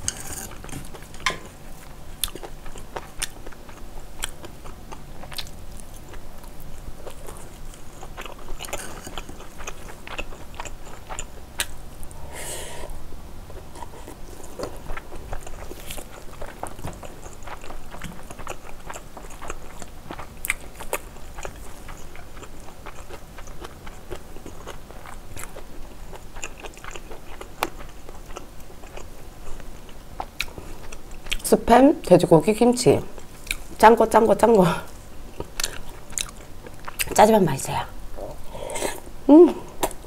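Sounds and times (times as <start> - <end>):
person chewing with wet mouth sounds: 0.1 - 12.3, 13.5 - 31.5, 33.1 - 33.8, 34.9 - 37.2.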